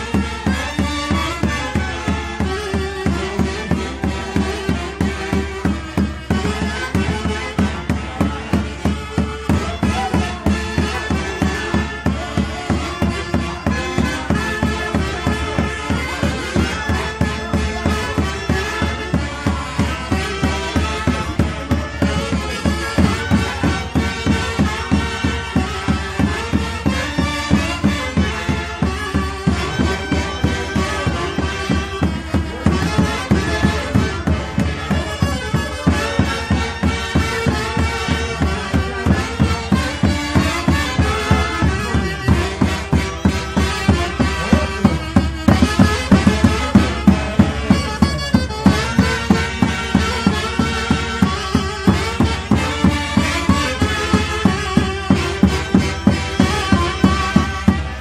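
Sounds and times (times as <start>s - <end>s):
reed wind instruments melody: 0.0s - 58.0s
steady drum beat: 0.0s - 58.0s.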